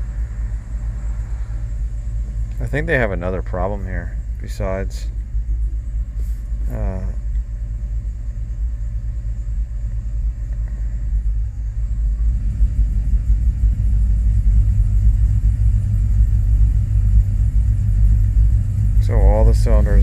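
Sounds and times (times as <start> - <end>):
engine running rough: 0.0 - 20.0.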